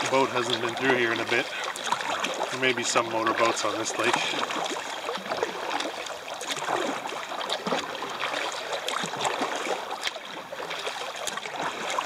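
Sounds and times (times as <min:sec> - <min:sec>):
water dripping off paddle: 0:00.0 - 0:12.0
waves lapping at hull: 0:00.0 - 0:12.0.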